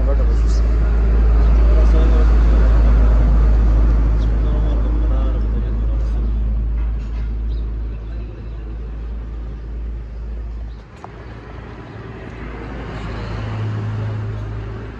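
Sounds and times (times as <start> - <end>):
engine humming: 0.0 - 14.9.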